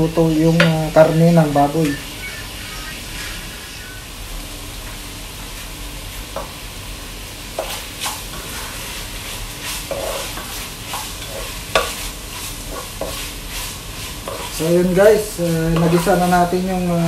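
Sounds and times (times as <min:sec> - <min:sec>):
meat sizzling in a pot: 0:00.0 - 0:17.0.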